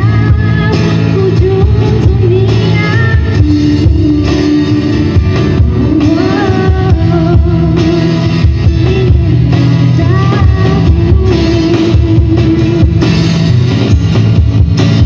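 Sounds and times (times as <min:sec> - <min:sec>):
woman singing: 0:00.0 - 0:13.3.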